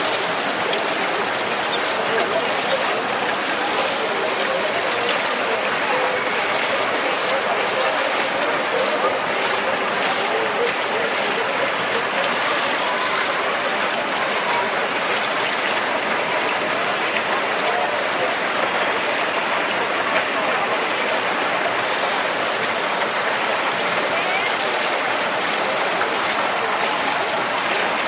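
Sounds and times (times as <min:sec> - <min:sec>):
swimmers splashing water: 0:00.0 - 0:28.0.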